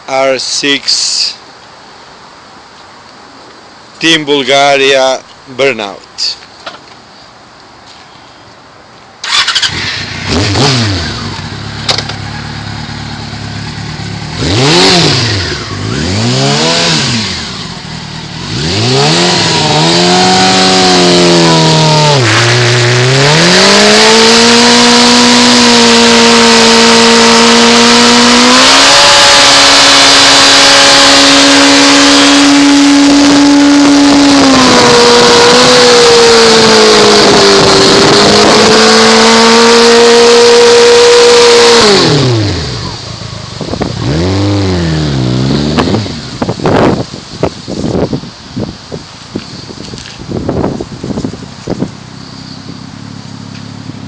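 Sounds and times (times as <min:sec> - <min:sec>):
motorcycle engine revving: 0:09.2 - 0:54.0.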